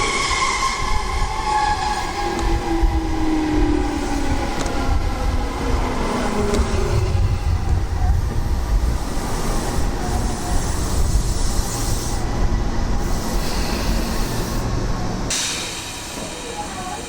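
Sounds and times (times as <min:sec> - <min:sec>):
electric train rumbling on track: 0:00.0 - 0:17.0.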